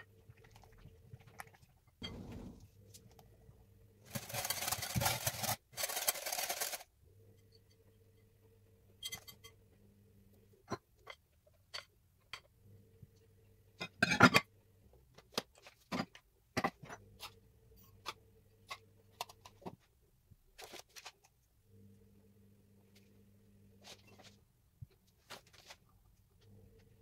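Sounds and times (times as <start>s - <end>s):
faint low hum: 0.0s - 5.6s, 6.8s - 15.7s, 16.4s - 27.0s.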